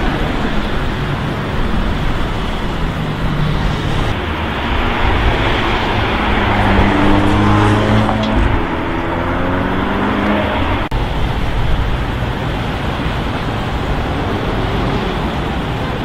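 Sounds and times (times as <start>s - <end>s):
car engine running: 0.0s - 16.0s
city street traffic: 0.0s - 16.0s.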